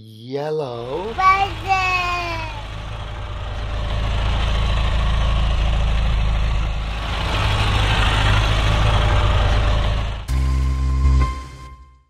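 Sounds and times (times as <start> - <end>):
bulldozer diesel engine running: 0.7 - 11.7.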